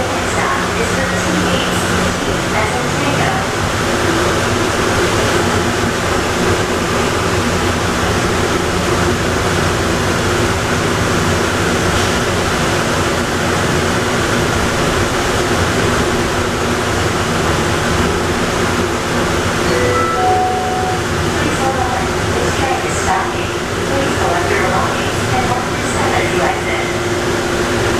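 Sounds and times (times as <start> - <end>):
people mover train running: 0.0 - 27.9.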